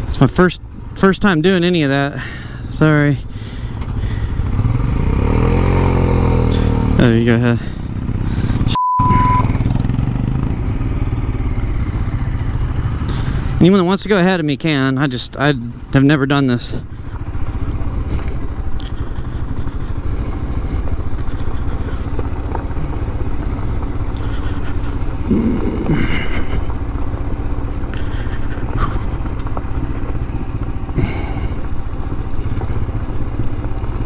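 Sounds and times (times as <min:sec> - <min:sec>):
motorcycle engine running: 0:00.0 - 0:34.0
tyres on gravel road: 0:00.0 - 0:34.0.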